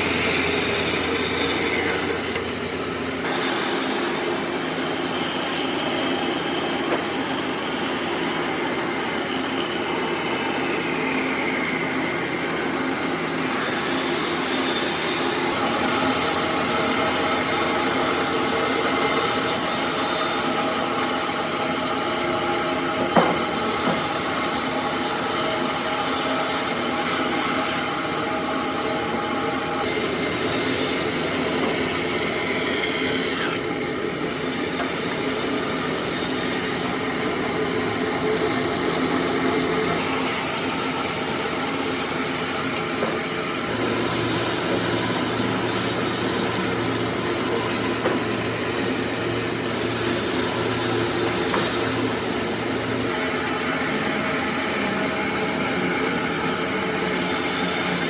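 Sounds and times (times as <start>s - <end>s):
power tool working wood: 0.0s - 58.0s.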